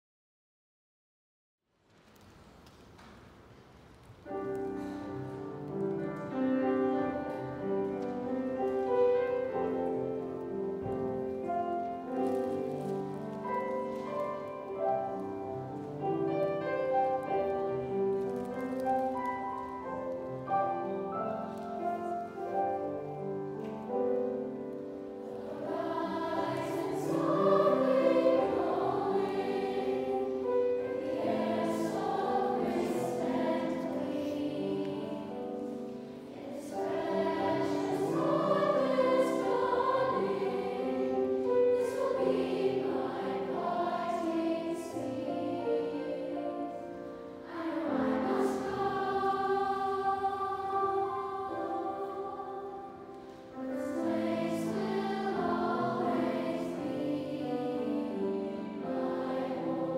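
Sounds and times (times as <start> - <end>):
children's choir singing: 4.2 - 59.9
piano accompaniment: 4.2 - 59.9.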